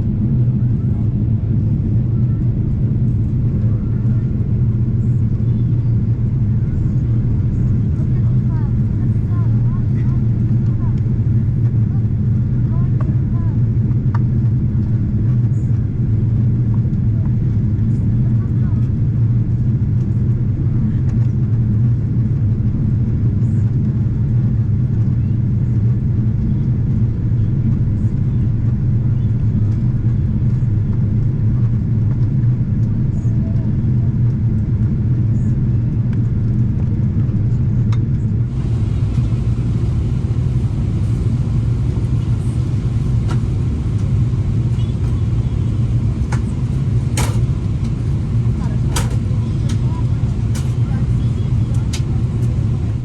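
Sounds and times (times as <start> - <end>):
vehicle cabin rumble: 0.0 - 53.0.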